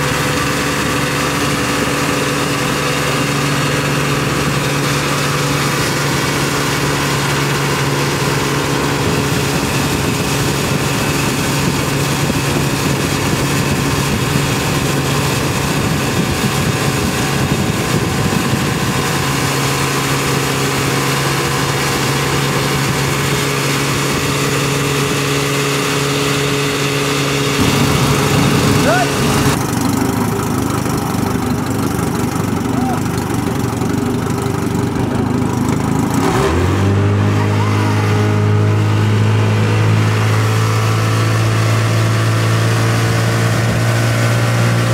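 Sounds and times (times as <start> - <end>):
boat engine humming: 0.0 - 44.9.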